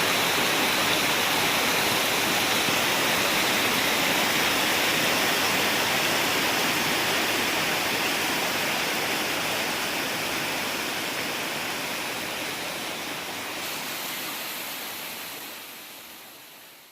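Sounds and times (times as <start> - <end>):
rushing water: 0.0 - 16.9.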